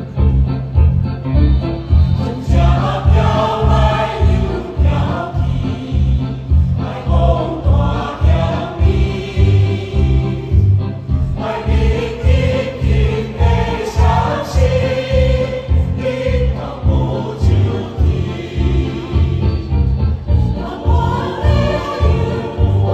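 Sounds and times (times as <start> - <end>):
choir singing lively song: 2.1 - 22.9.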